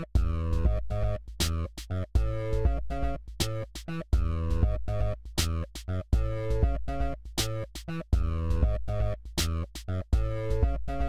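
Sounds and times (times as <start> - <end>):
instrumental music with deep bass: 0.0 - 11.0.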